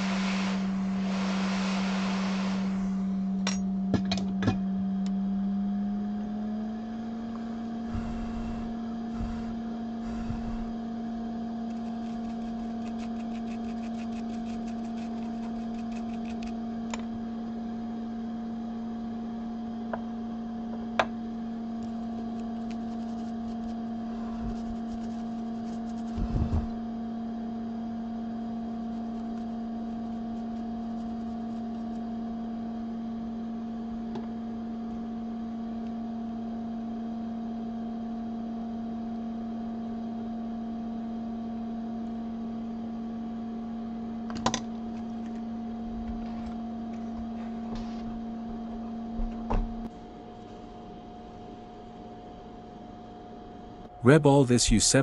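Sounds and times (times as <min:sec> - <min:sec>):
electrical hum: 0:00.0 - 0:36.4, 0:42.1 - 0:55.0.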